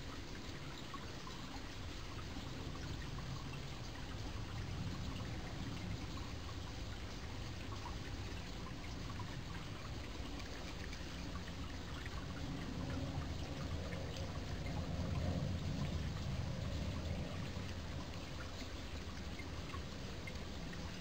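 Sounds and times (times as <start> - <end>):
stream flowing water: 0.0 - 21.0.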